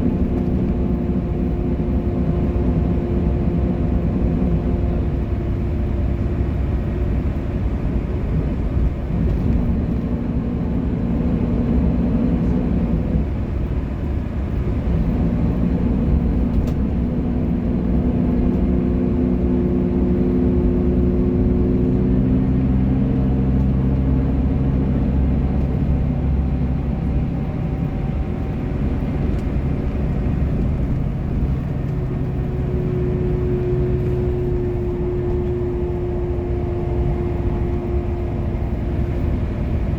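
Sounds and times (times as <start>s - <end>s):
bus engine humming: 0.0s - 39.9s
low road rumble: 0.0s - 39.9s.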